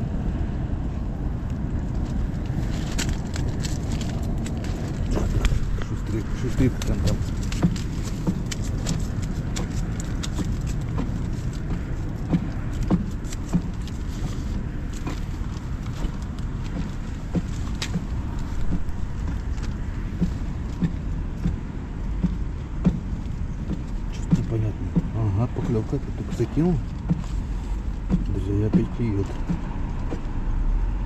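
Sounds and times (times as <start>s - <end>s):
wind buffeting tent fabric: 0.0s - 31.0s
wind rumbling on microphone: 0.0s - 31.0s
light clicks and taps: 1.4s - 30.4s.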